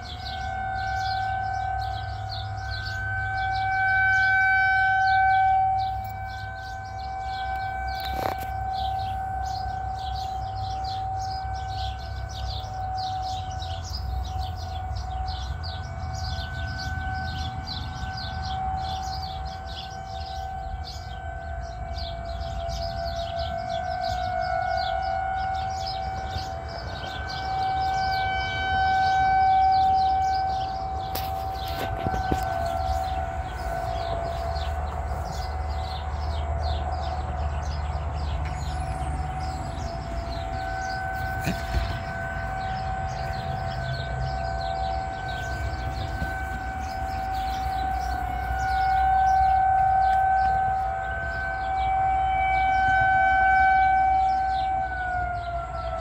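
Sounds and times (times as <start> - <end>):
rotating warning siren steady tone: 0.0 - 56.0.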